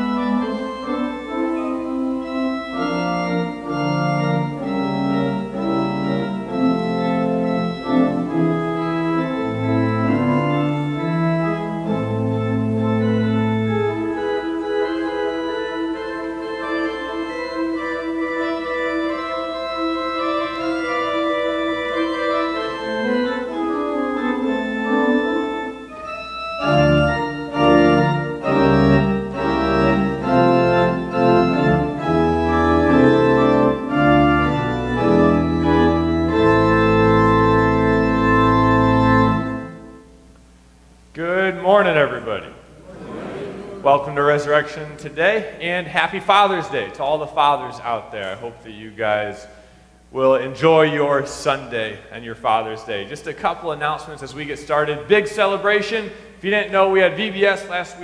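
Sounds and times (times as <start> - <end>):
church organ chords: 0.0 - 58.0
organ pedal bass line: 0.0 - 58.0.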